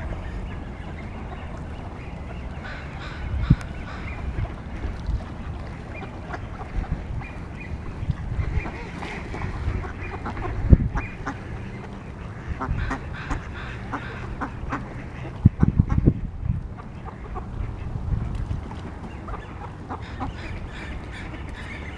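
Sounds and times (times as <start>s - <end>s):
ducks quacking: 0.0s - 18.0s, 18.8s - 21.9s.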